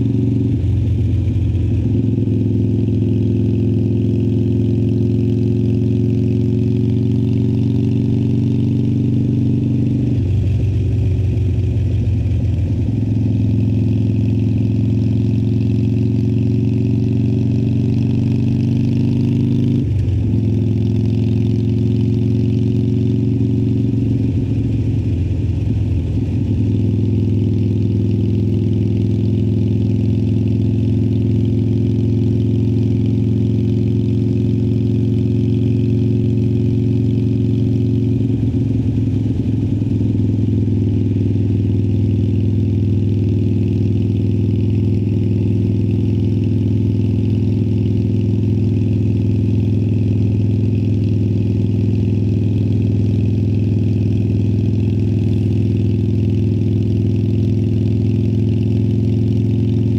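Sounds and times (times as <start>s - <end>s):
motorcycle engine running steadily: 0.0s - 59.9s.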